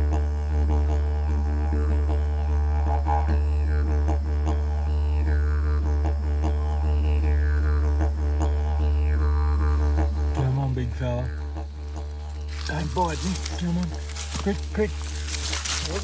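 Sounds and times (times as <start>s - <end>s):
didgeridoo droning: 0.0s - 16.0s.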